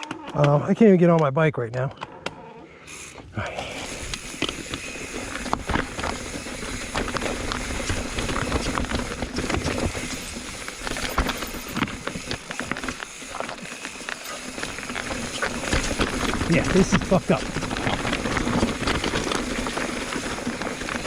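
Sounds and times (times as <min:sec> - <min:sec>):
bike tyres crunching over rock: 0:03.7 - 0:21.0
bike knocking and rattling: 0:03.9 - 0:21.0.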